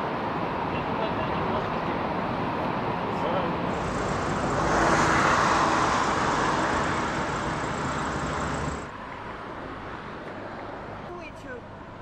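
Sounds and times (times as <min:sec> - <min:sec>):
busy road traffic: 0:00.0 - 0:12.0.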